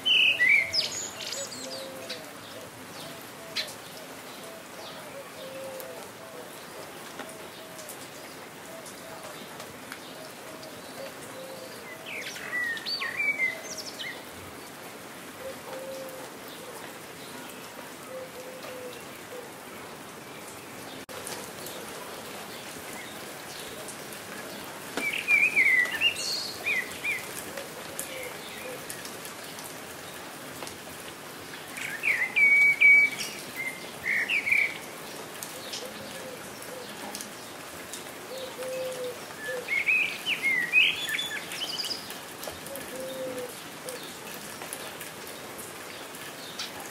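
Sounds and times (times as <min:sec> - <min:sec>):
songbirds chirping: 0:00.0 - 0:46.9
steady rain falling: 0:00.0 - 0:46.9.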